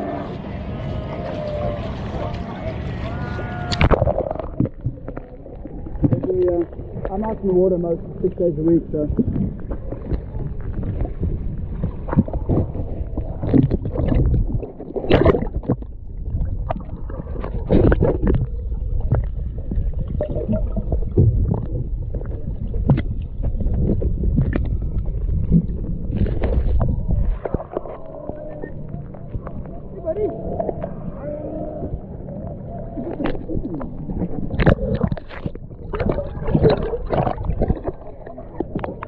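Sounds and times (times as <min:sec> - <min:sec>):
water sloshing and gurgling: 0:00.0 - 0:39.0
knocks and splashes: 0:01.0 - 0:07.6, 0:09.0 - 0:28.0, 0:33.1 - 0:39.0.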